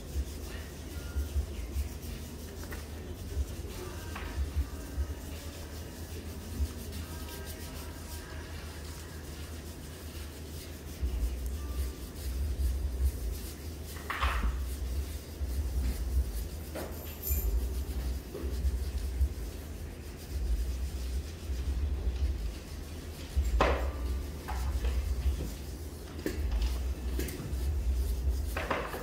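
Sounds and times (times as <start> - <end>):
hands rubbing skin: 0.0 - 29.0.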